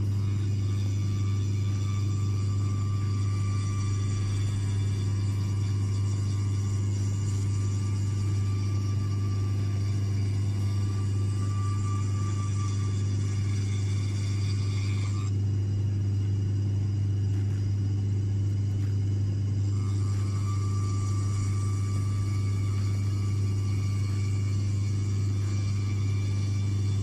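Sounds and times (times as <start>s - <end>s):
high machine whine: 0.0s - 27.0s
machine motor hum: 0.0s - 27.0s.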